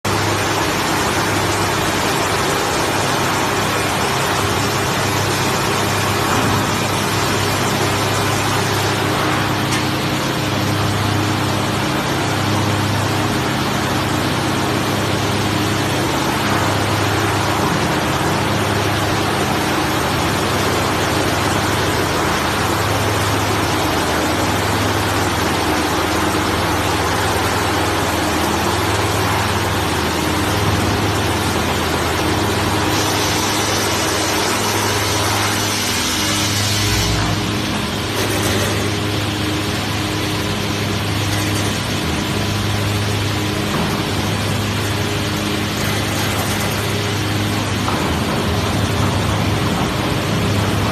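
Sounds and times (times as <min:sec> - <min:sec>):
sanding machine hum and rush: 0:00.1 - 0:50.9.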